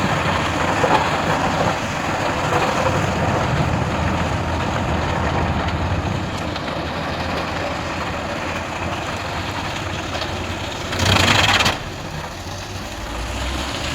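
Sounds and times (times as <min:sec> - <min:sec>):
wood chipper rumbling: 0:00.0 - 0:13.9.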